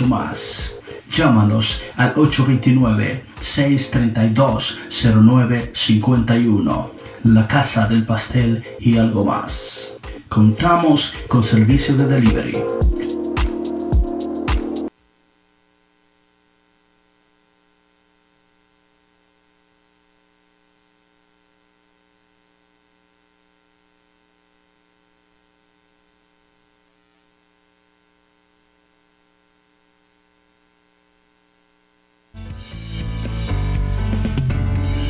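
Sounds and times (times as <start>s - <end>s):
faint electrical hum: 0.0s - 13.1s, 14.9s - 32.4s.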